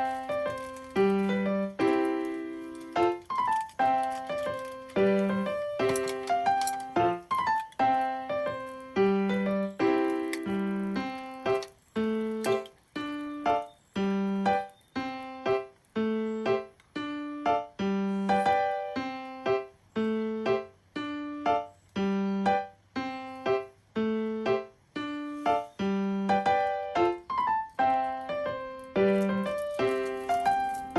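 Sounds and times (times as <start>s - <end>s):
piano playing repeated chords: 0.0s - 30.9s.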